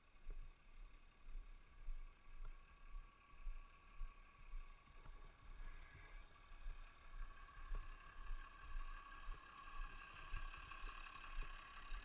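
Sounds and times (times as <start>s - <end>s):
motorcycle engine hum: 0.0s - 12.0s.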